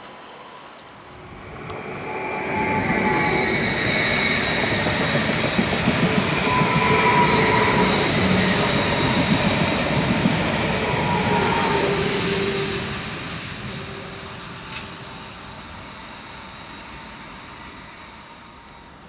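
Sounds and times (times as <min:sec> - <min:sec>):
train wheels rumbling on rails: 0:00.0 - 0:19.0
high whining tones: 0:01.0 - 0:19.0.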